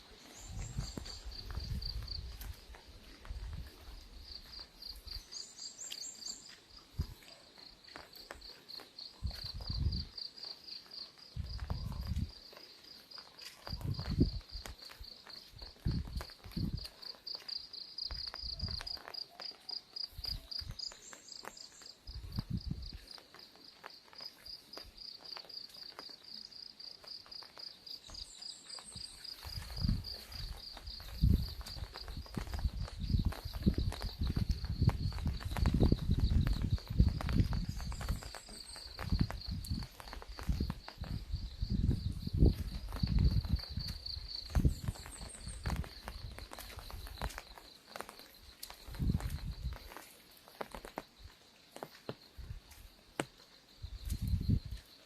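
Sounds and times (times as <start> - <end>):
footsteps on ground: 0.0 - 55.0
raindrops on an umbrella: 0.0 - 55.0
insect chirping: 0.1 - 55.0.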